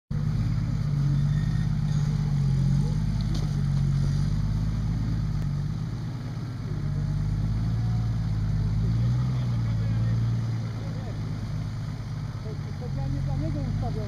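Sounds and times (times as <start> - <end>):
off-road vehicle engine running: 0.1 - 14.0.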